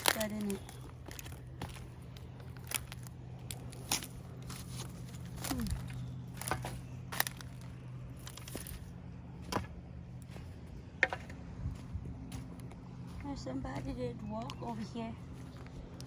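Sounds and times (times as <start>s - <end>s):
footsteps crunching on gravel: 0.0s - 16.0s.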